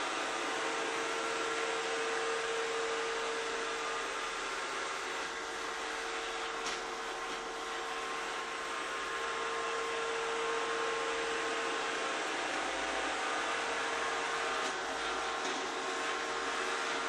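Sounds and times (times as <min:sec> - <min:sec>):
robotic vacuum cleaner whirring: 0:00.0 - 0:17.0.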